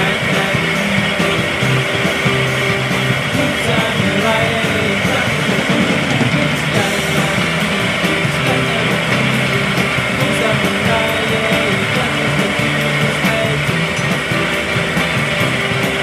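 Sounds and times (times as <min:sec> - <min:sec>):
background music: 0:00.0 - 0:16.0
chisel cutting spinning wood: 0:00.0 - 0:16.0
lathe motor running: 0:00.0 - 0:16.0.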